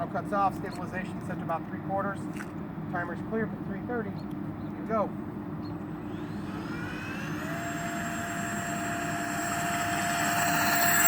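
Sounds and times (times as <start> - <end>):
electric ducted fans whining: 1.8 - 11.0.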